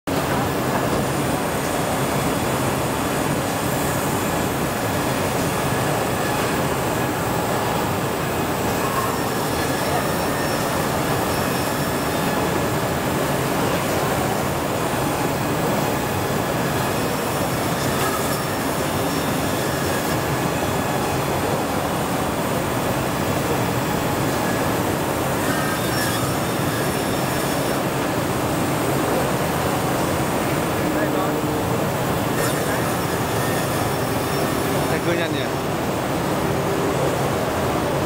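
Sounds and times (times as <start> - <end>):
woodworking machinery running: 0.1 - 38.0.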